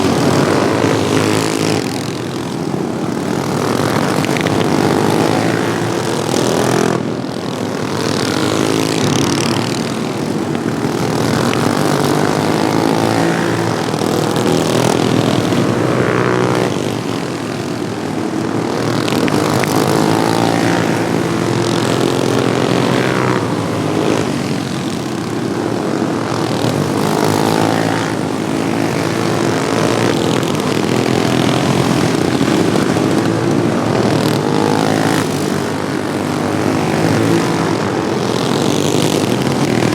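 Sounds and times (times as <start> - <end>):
lawn tractor engines racing: 0.0 - 39.9.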